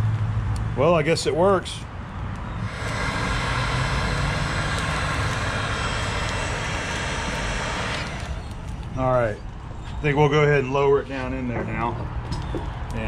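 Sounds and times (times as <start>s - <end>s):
hot-air fan blowing with whine: 0.0s - 13.0s.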